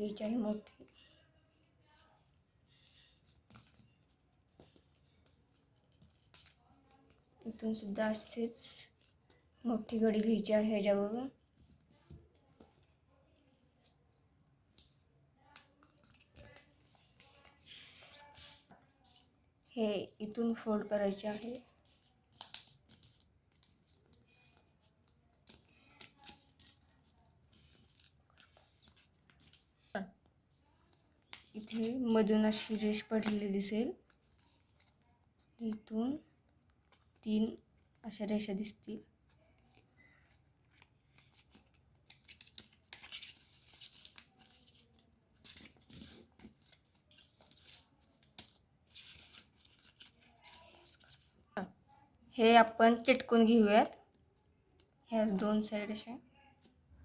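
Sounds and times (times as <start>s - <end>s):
paper rustling being folded: 0.1s - 10.8s, 11.4s - 19.7s, 20.3s - 51.6s.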